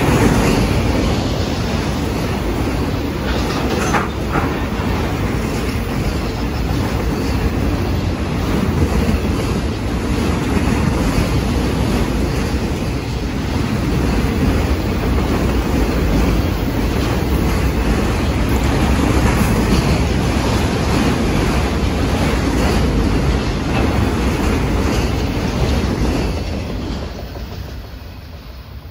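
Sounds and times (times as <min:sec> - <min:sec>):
freight train cars rumbling past: 0:00.0 - 0:28.9.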